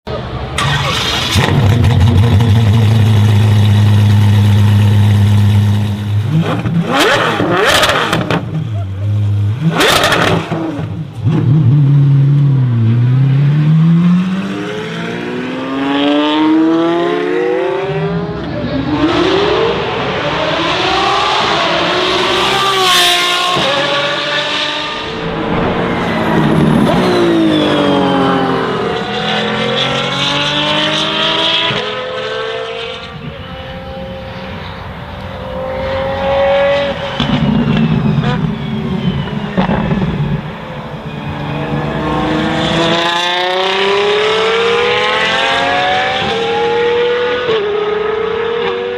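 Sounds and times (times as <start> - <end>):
engine revving: 0.6 - 34.6, 35.2 - 40.6, 41.5 - 48.9
car accelerating and passing: 9.2 - 48.9.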